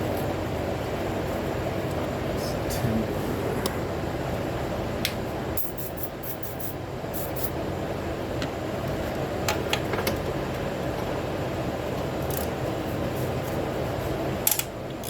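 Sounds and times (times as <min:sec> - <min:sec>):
fan running: 0:00.0 - 0:15.0.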